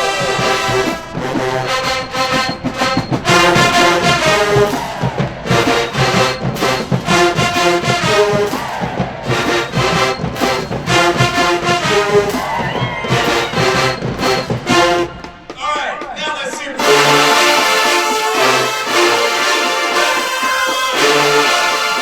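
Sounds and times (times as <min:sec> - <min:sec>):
brass chords: 0:00.0 - 0:22.0
drums: 0:00.0 - 0:22.0.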